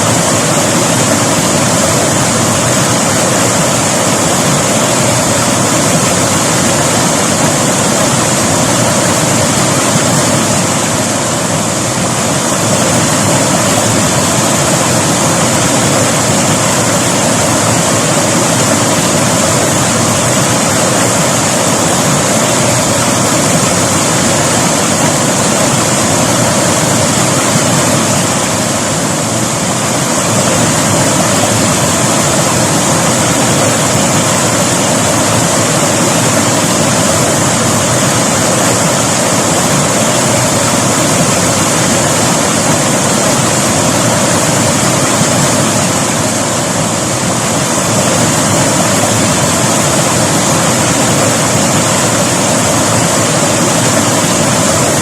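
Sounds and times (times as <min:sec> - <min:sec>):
river water rushing and splashing: 0:00.0 - 0:55.0.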